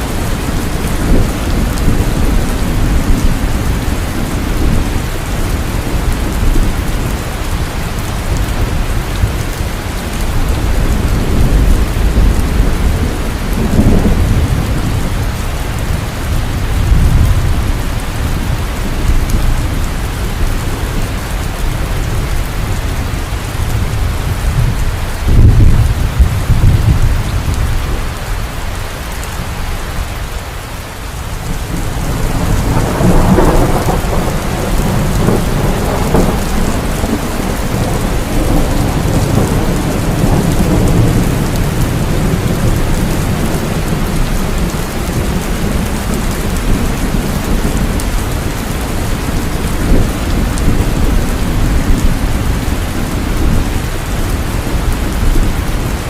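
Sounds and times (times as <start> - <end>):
thunder rumbling: 0.0 - 30.4, 31.2 - 56.0
heavy rain falling: 0.0 - 56.0.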